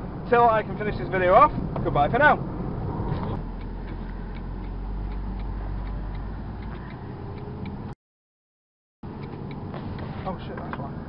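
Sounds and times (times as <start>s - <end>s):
engine and road hum: 0.0s - 8.0s, 9.0s - 11.0s
turn signal ticking: 0.2s - 8.0s, 9.0s - 11.0s.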